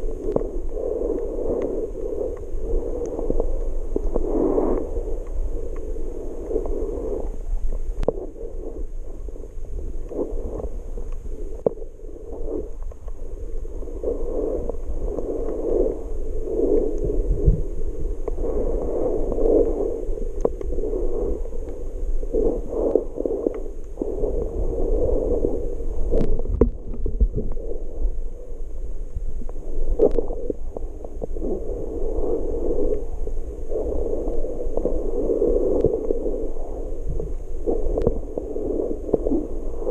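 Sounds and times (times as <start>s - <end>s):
low underwater rumble: 0.0s - 39.9s
underwater sloshing and gurgling: 0.0s - 39.9s.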